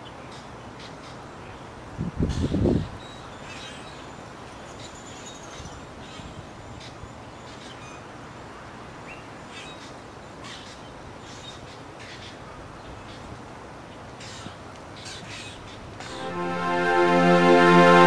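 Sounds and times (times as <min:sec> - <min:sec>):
steady background hiss: 0:03.1 - 0:18.0.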